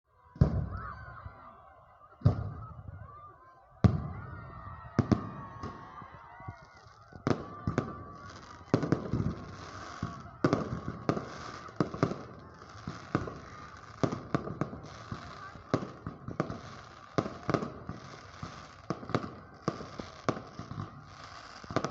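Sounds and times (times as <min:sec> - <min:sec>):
fireworks booming: 0:00.4 - 0:00.8, 0:02.2 - 0:03.2, 0:03.8 - 0:21.9
fireworks crackling: 0:03.9 - 0:21.9.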